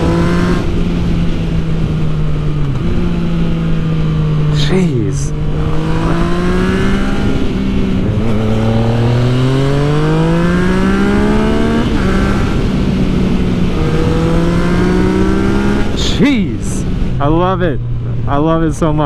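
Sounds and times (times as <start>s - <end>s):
motorcycle engine accelerating: 0.0s - 18.3s.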